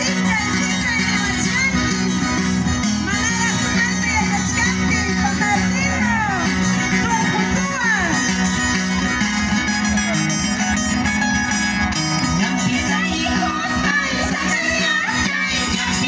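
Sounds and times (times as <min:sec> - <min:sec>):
guitar dance music: 0:00.0 - 0:16.0.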